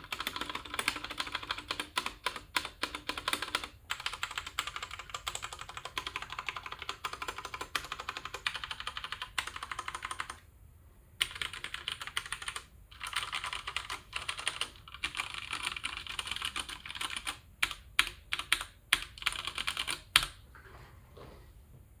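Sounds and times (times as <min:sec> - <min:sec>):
mechanical keyboard typing: 0:00.0 - 0:10.4, 0:11.2 - 0:20.4.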